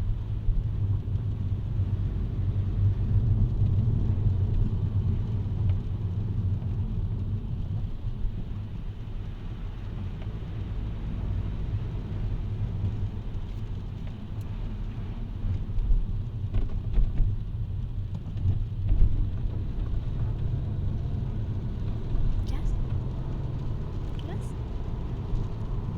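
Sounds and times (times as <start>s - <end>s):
car driving on wet road: 0.0s - 25.9s.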